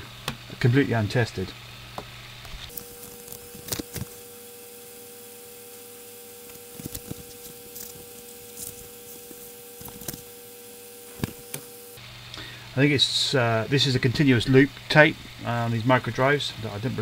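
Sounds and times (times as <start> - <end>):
tape drive humming: 0.0 - 17.0.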